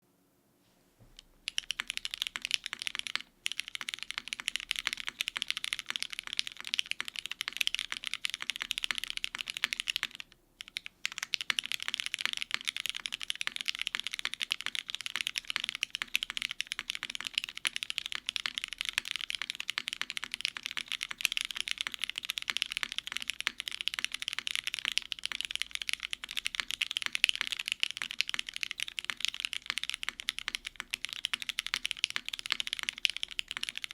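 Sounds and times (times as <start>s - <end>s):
fast typing on mechanical keyboard: 1.5s - 33.9s.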